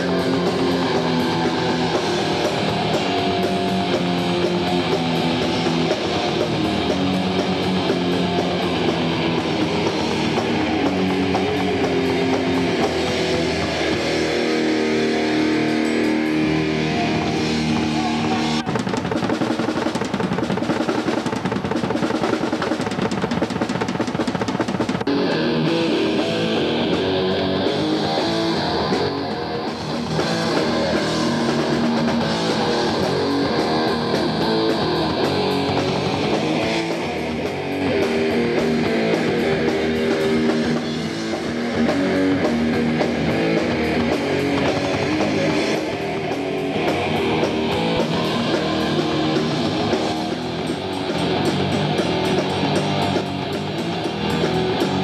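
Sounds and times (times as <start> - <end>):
electric guitar chords: 0.0 - 19.7, 24.8 - 55.0
bass guitar: 0.0 - 55.0
drum kit: 0.0 - 55.0.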